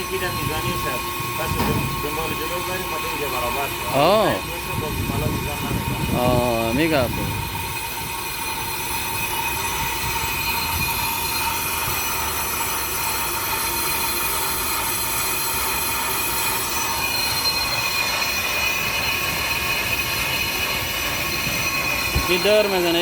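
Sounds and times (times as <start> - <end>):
lathe running: 0.0 - 23.0
metal cutting squeal: 0.0 - 23.0.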